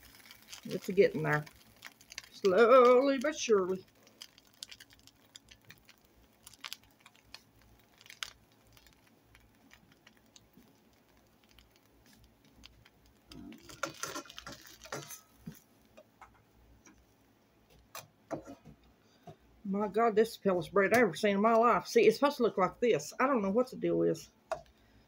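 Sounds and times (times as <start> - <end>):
bread crackling in a frying pan: 0.0 - 25.0.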